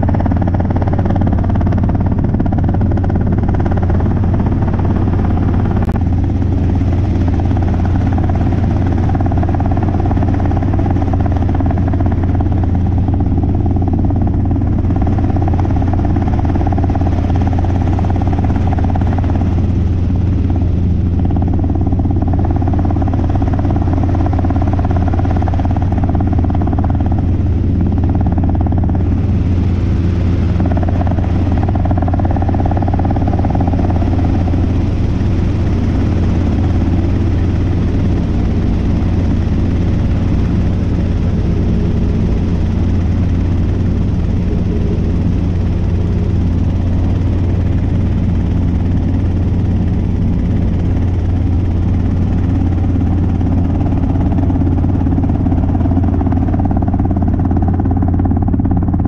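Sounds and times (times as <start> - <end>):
helicopter engine and rotors drone: 0.0 - 59.0.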